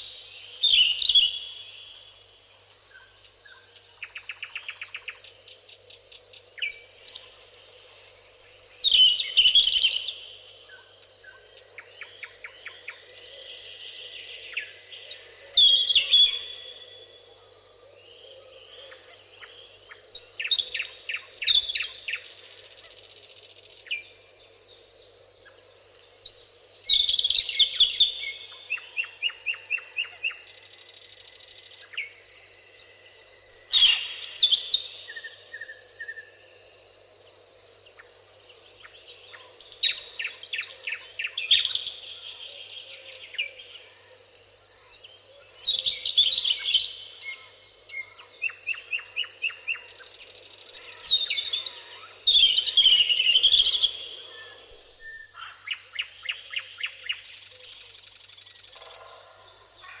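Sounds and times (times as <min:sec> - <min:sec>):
songbirds singing: 0:00.0 - 1:00.0.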